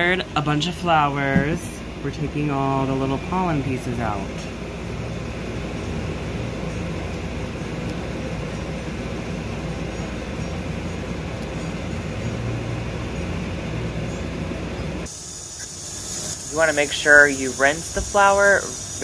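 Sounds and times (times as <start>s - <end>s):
mechanical hum with rushing noise: 0.0s - 19.0s.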